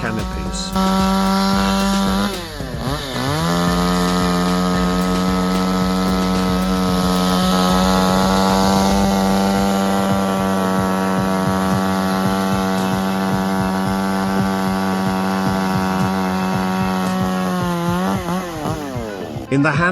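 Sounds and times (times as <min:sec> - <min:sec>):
chainsaw engine revving: 0:00.0 - 0:19.5.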